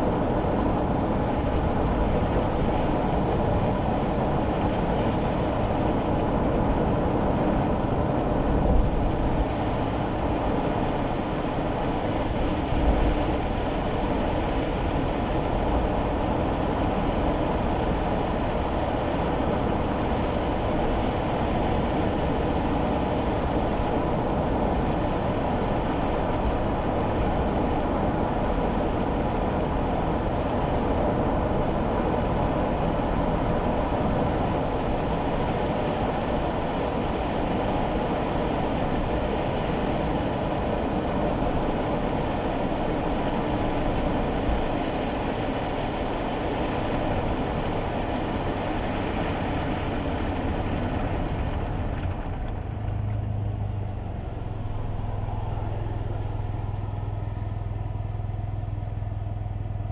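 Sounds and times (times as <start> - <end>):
car engine rumble: 0.0 - 59.9
tyres on wet road: 0.0 - 59.9.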